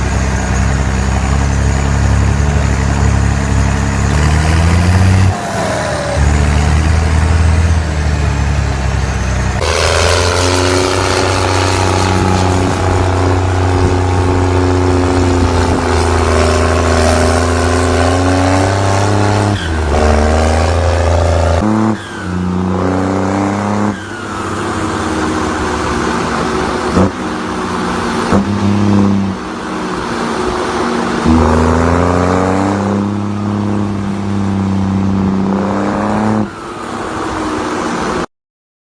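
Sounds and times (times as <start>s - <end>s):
diesel tractor engines revving: 0.0s - 38.3s.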